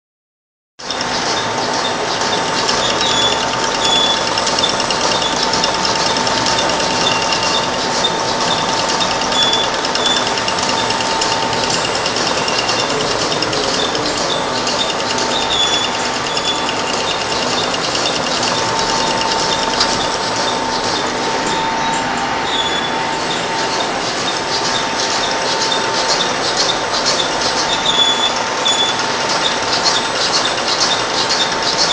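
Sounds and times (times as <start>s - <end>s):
sewing machine clatter and whine: 0.8s - 31.9s.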